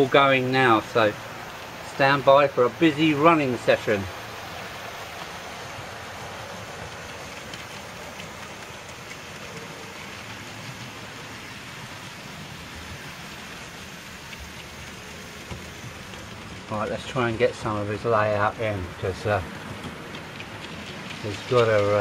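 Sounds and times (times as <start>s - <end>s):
model trains rattling on track: 0.0s - 22.0s.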